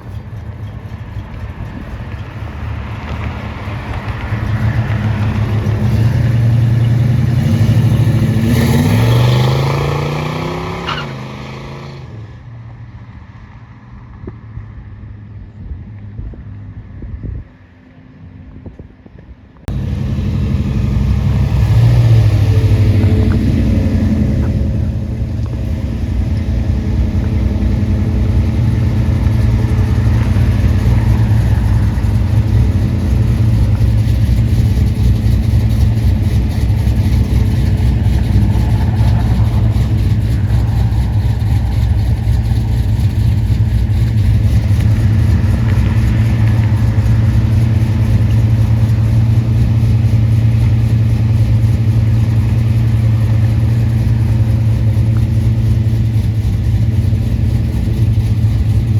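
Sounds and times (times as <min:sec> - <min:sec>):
car engine running: 0:00.0 - 0:11.0, 0:19.7 - 0:58.9.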